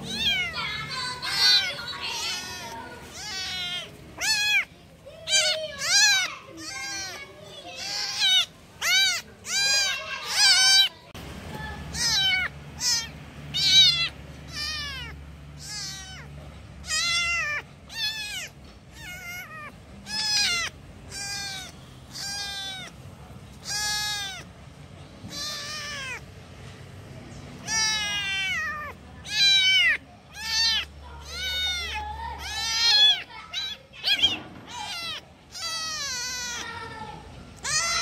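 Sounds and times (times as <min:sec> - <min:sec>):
kitten meowing: 0:00.0 - 0:11.0, 0:11.9 - 0:24.5, 0:25.2 - 0:26.2, 0:27.6 - 0:38.0.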